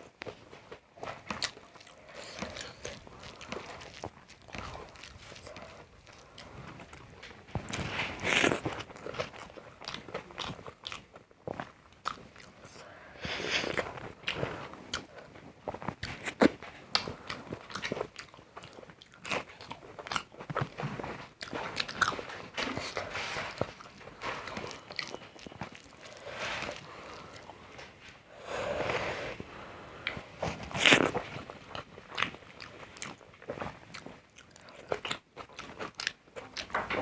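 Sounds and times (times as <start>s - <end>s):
crunchy chewing of crisp food: 0.0s - 28.1s, 30.0s - 37.0s.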